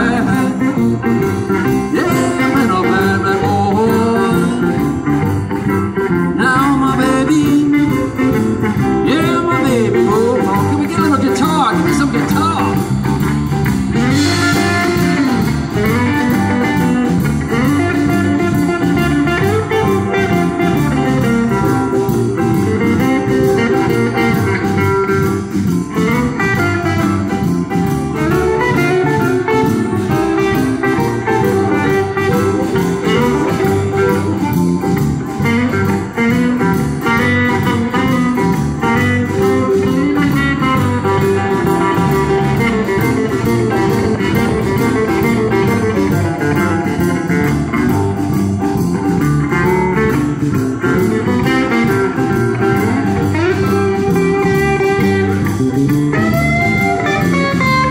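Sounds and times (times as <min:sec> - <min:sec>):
blues band playing: 0:00.0 - 0:57.9
electric guitar: 0:00.0 - 0:57.9.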